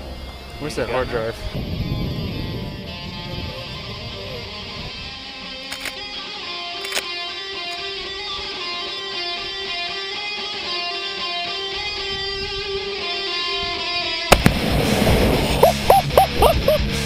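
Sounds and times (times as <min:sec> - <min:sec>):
strummed guitar music: 0:01.8 - 0:17.0.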